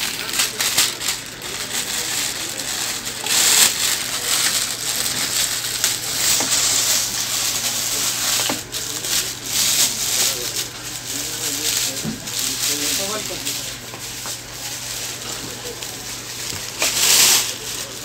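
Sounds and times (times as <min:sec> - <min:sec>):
plastic wrapping crinkling: 0:00.0 - 0:18.0.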